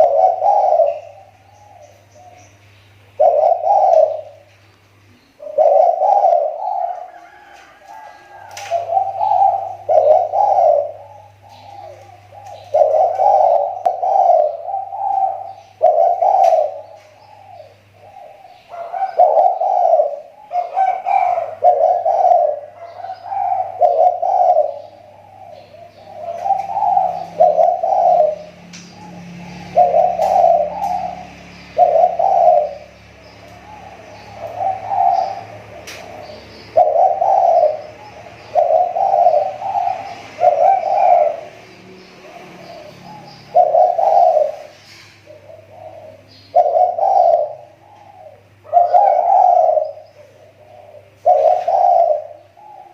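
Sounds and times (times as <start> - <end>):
dove cooing: 0.0 - 52.9
small birds chirping: 0.0 - 52.9.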